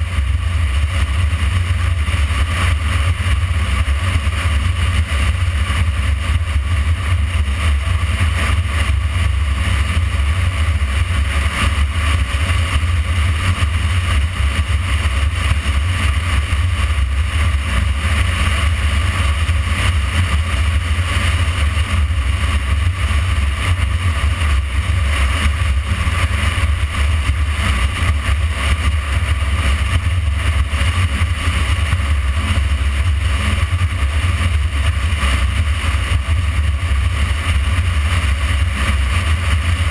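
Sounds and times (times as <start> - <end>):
motorcycle engine: 0.0 - 39.9
wind rumble on microphone: 0.0 - 39.9.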